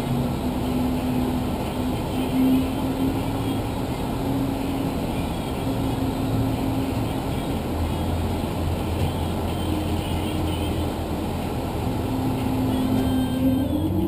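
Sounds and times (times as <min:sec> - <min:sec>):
crane engine and machinery humming: 0:00.0 - 0:14.0.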